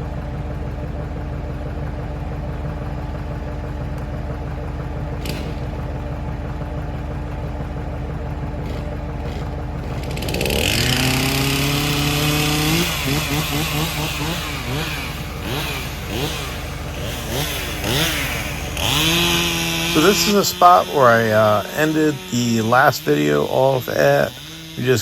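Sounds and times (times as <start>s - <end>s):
engine idling and revving: 0.0s - 25.0s.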